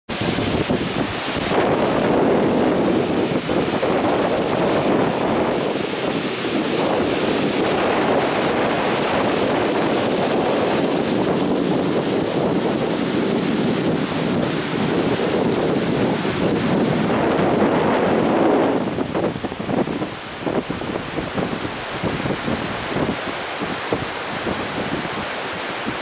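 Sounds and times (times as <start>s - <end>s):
waterfall rushing: 0.1s - 26.0s
wind buffeting microphone: 0.1s - 26.0s.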